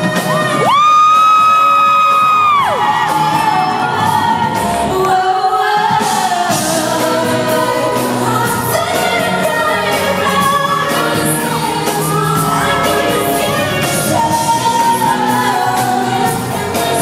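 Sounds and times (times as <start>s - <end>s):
live band backing: 0.0s - 17.0s.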